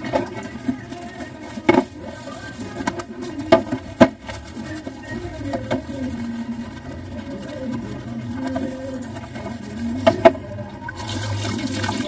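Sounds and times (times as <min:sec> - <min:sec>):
dishes washed in steel sink: 0:00.0 - 0:12.0.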